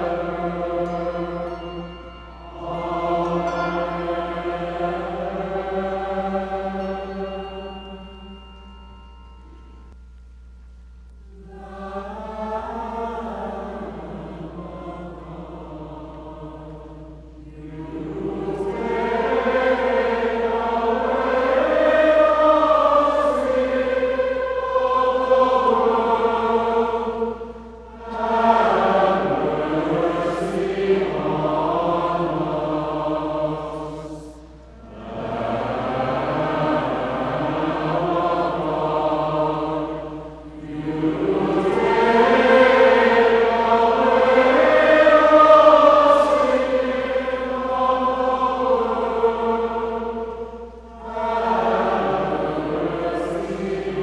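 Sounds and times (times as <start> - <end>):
choir singing chant-like phrases: 0.0 - 8.8, 11.3 - 54.0.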